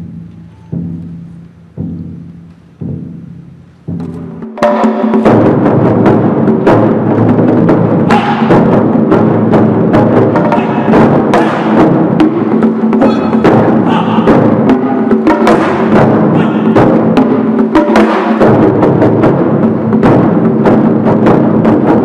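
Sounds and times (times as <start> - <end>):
large drums beaten with sticks: 0.0 - 22.0.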